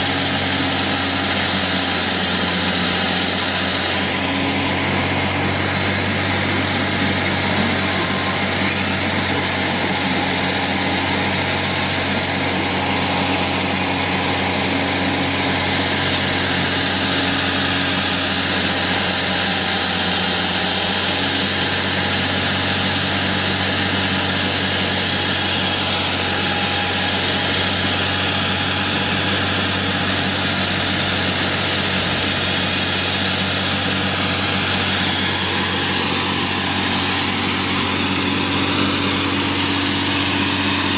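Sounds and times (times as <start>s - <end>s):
diesel concrete saw engine: 0.0s - 40.9s.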